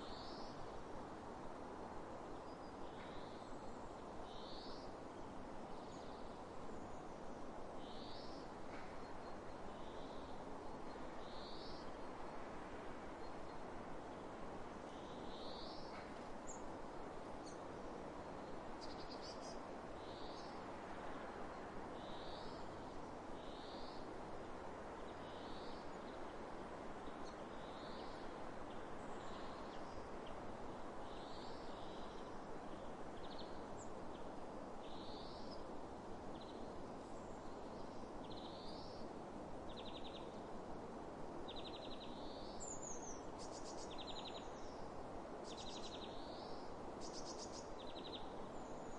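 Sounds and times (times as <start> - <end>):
steady wind: 0.0 - 48.9.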